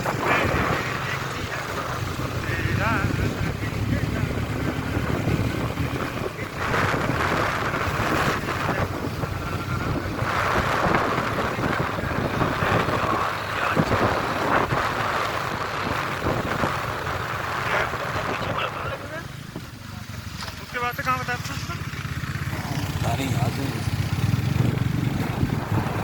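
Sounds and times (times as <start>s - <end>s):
wind buffeting microphone: 0.0s - 20.4s, 21.6s - 26.0s
vehicle rumble: 0.0s - 26.0s.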